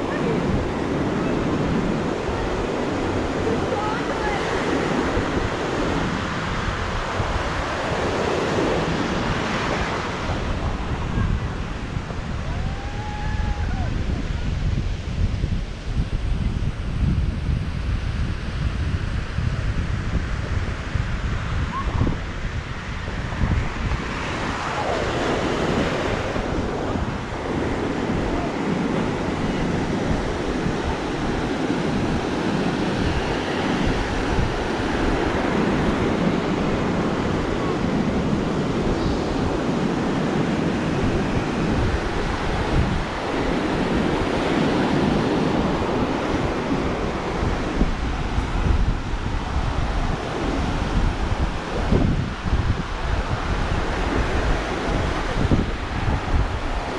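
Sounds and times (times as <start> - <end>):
ocean surf on beach: 0.0 - 56.9
wind buffeting microphone: 0.0 - 56.9.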